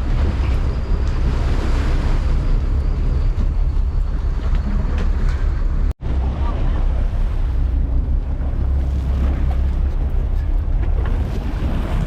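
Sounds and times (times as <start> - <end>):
boat engine running: 0.0 - 12.0
water rushing along hull: 0.0 - 12.0
wind buffeting microphone: 0.0 - 12.0.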